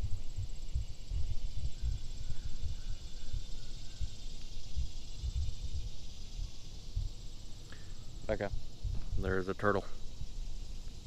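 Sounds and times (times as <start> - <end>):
high-pitched insect drone: 0.0 - 11.0
wind buffeting microphone: 0.0 - 11.0.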